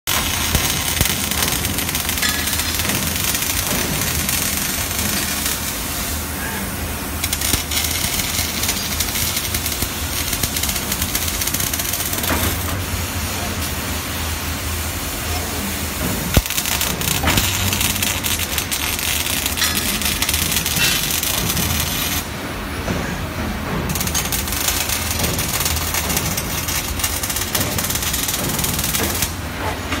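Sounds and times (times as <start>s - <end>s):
welding arc crackling: 0.0s - 13.8s, 15.9s - 22.4s, 23.8s - 29.5s.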